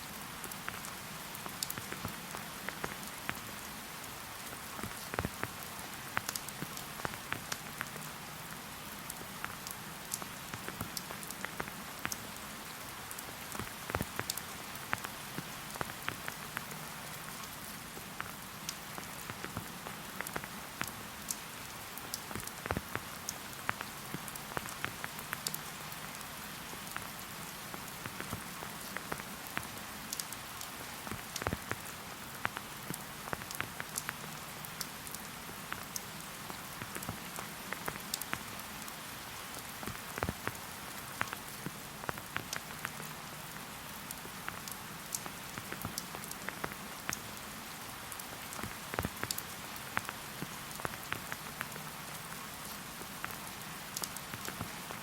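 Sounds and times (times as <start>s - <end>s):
rain falling in forest: 0.0s - 55.0s
raindrops pattering: 0.0s - 55.0s.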